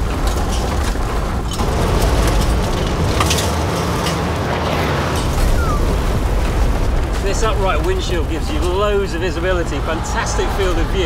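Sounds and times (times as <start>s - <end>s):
vehicle rumble on dirt track: 0.0s - 11.0s.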